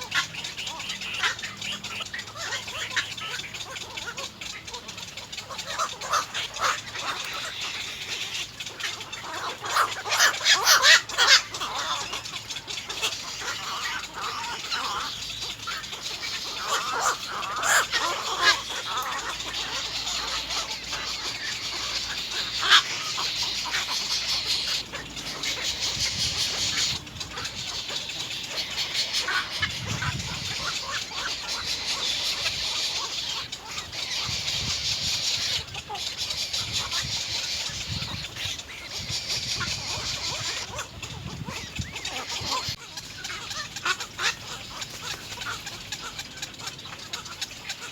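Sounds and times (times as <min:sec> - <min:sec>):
egret chicks chattering: 0:00.0 - 0:47.9.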